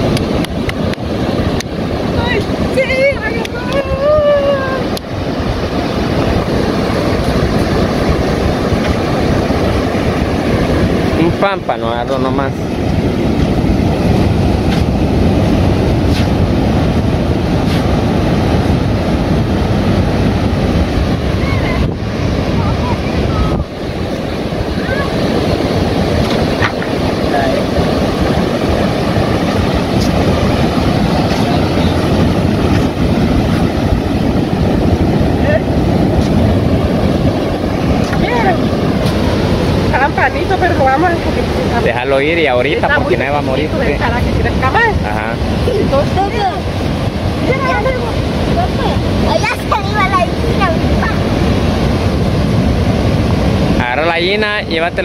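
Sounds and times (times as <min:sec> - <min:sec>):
ocean surf breaking: 0:00.0 - 0:55.0
wind buffeting microphone: 0:00.0 - 0:55.0.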